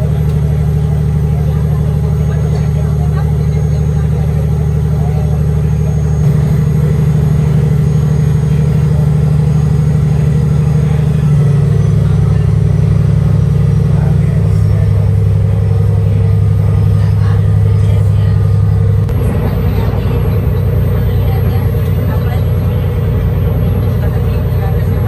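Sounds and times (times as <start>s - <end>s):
heavy diesel engine drone: 0.0s - 25.0s.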